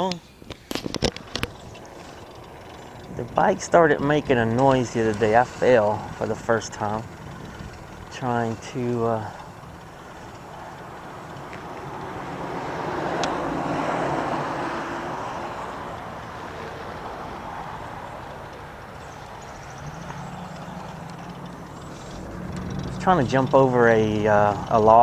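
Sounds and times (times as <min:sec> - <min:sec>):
wind and rolling noise: 0:00.0 - 0:25.0.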